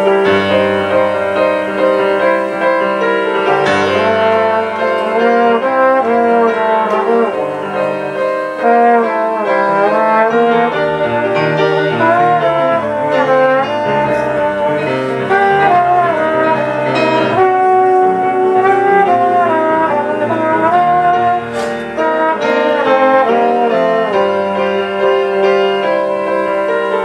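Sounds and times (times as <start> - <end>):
piano accompaniment: 0.0 - 27.0
trombone melody: 0.0 - 27.0.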